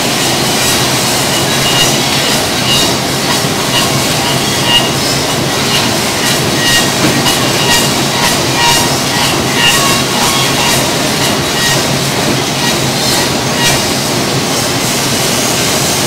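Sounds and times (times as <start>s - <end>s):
woodworking machines running: 0.0s - 16.0s
short high squeals: 0.2s - 14.0s.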